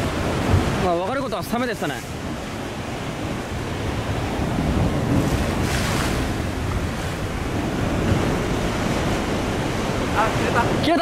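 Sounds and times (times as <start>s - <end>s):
surf breaking against rocks: 0.0s - 11.0s
wind buffeting microphone: 0.0s - 11.0s.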